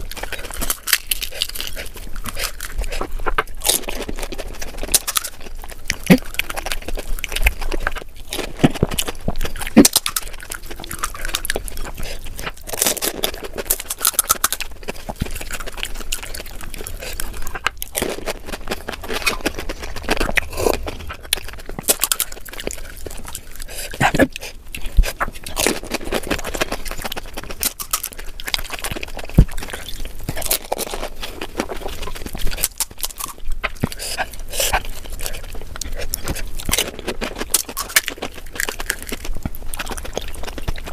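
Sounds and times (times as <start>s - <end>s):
chewing: 0.0s - 40.9s
crisp shells crunching: 0.0s - 40.9s.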